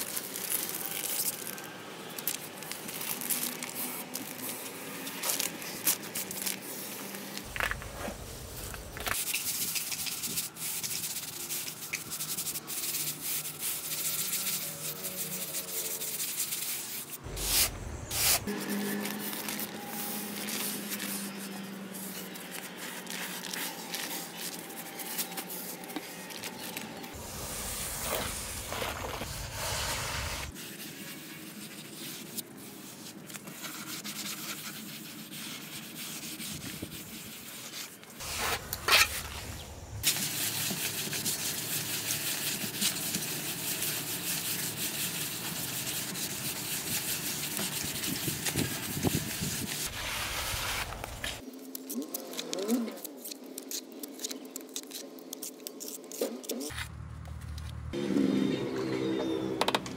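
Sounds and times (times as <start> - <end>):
scraping and rubbing by hand: 0.0 - 51.5.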